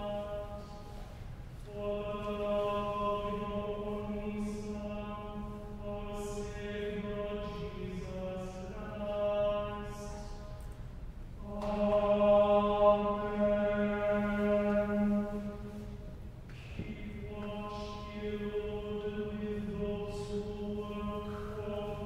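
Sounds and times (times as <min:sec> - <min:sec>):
person chanting a prayer: 0:00.0 - 0:10.6, 0:11.4 - 0:16.0, 0:16.6 - 0:22.0.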